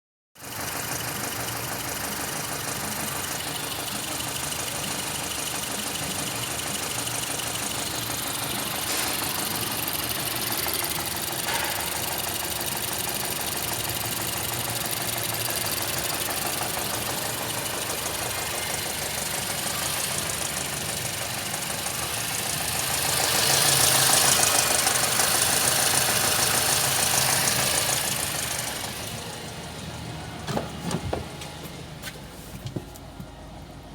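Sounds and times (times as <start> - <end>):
car engine idling and revving: 0.4 - 33.9.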